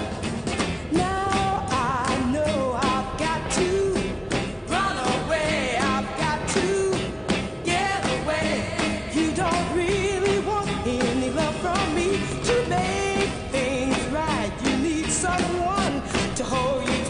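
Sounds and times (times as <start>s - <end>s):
person singing: 0.0s - 17.0s
steady drum beat: 0.0s - 17.0s.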